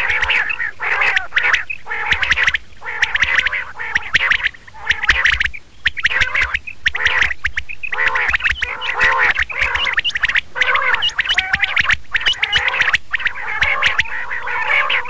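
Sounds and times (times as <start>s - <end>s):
quail calls: 0.0s - 15.0s.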